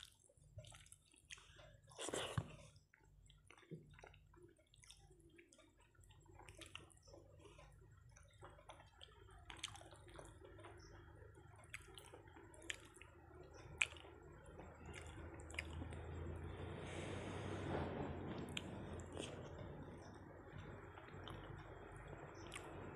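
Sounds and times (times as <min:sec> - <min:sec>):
fingers squishing wet food: 0:00.0 - 0:16.6, 0:18.6 - 0:22.9
chewing: 0:00.0 - 0:22.9.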